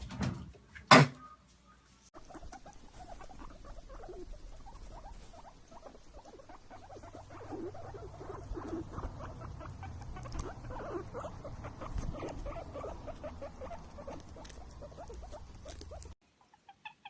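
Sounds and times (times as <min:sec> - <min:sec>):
small animals squeaking: 0:02.2 - 0:17.0.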